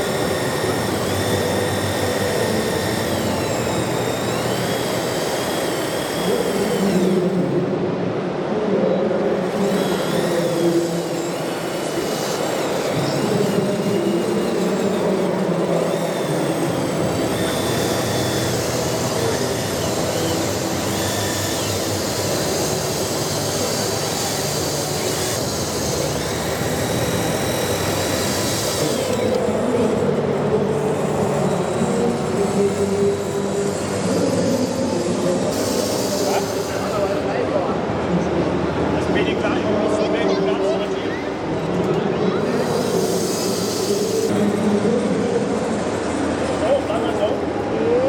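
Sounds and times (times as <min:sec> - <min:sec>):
model motors and hydraulic pumps whirring: 0:00.0 - 0:48.0.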